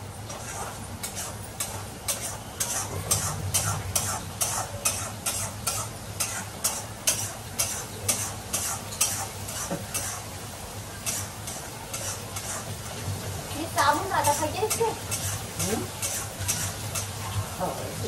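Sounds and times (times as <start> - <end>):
food sizzling: 0.0 - 18.0
spatula scraping pan: 0.2 - 13.0, 13.6 - 17.5.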